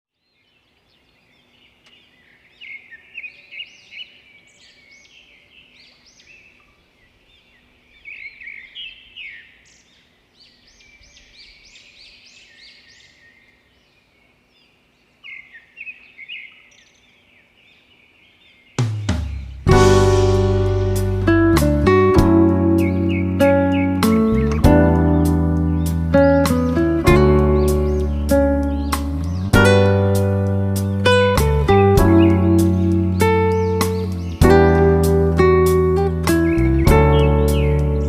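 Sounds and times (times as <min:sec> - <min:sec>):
birds chirping and singing: 0:00.3 - 0:38.0.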